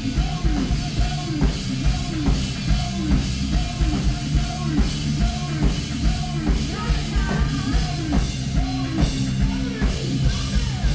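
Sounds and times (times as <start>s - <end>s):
drum kit beat: 0.0s - 10.9s
electric guitar: 0.0s - 10.9s
live rock band playing: 0.0s - 10.9s.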